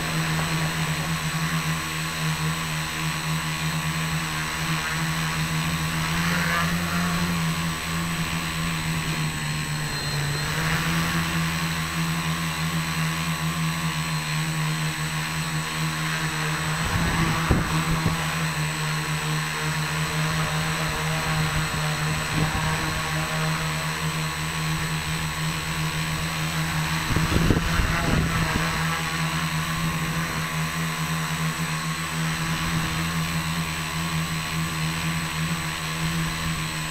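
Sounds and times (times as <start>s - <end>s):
drone propellers humming: 0.0s - 36.9s.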